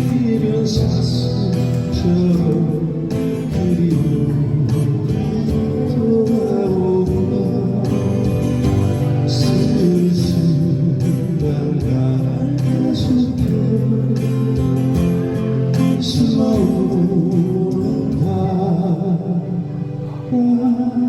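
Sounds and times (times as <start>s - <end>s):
guitar: 0.0s - 21.0s
live band playing a ballad: 0.0s - 21.0s
person singing: 0.0s - 21.0s.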